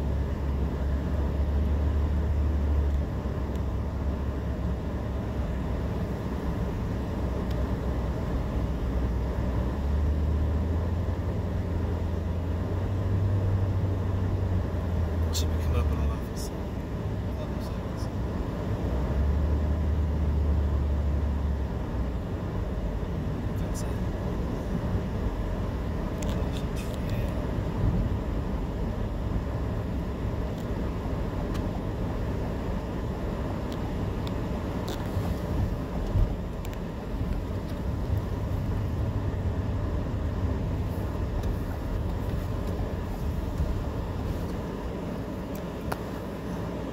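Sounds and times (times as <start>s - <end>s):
car tyres and engine rumble: 0.0s - 46.9s.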